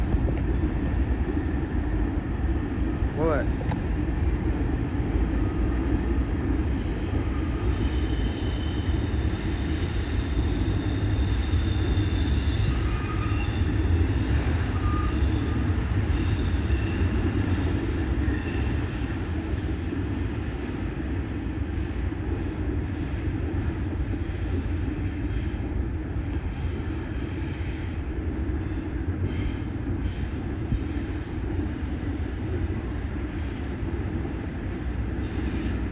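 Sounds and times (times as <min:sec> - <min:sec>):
train rumbling by: 0:00.0 - 0:35.9.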